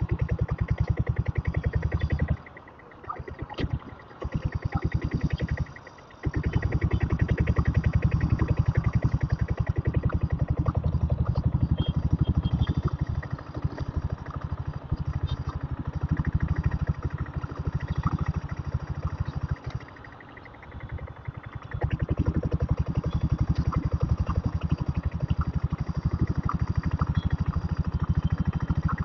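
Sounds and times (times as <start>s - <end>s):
single-cylinder motorcycle engine running: 0.0s - 29.0s.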